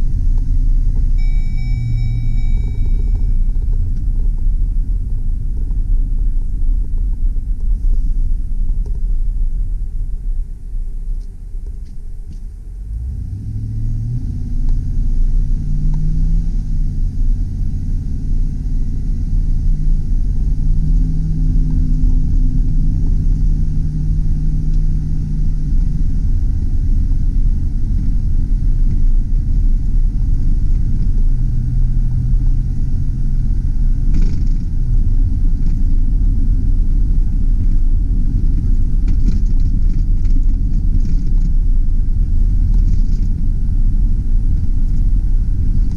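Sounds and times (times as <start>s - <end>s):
road and tyre rumble: 0.0s - 45.9s
truck engine from inside cab: 0.0s - 45.9s.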